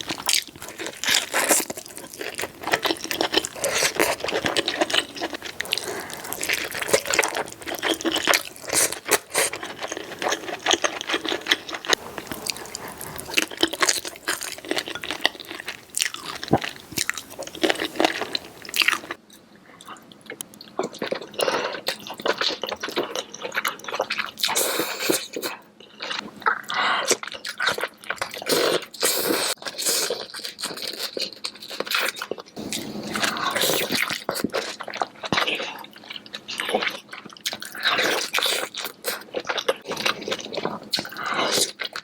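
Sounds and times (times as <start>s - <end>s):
wet chewing and mouth smacking: 0.0s - 19.2s, 19.9s - 42.0s.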